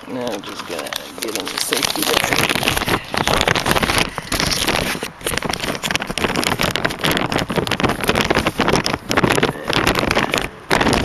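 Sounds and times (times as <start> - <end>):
microphone handling rustle: 0.0 - 11.0
wind on microphone: 1.7 - 11.0.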